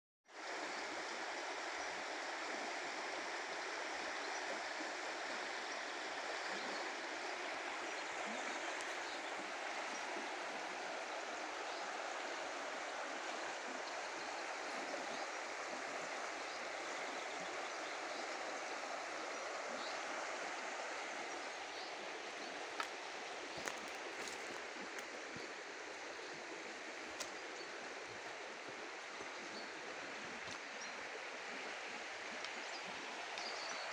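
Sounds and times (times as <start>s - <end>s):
river rushing over stones: 0.3s - 33.9s.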